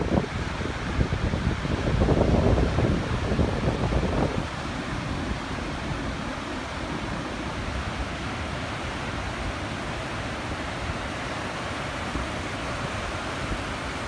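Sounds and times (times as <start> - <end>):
surf washing over boulders: 0.0 - 14.0.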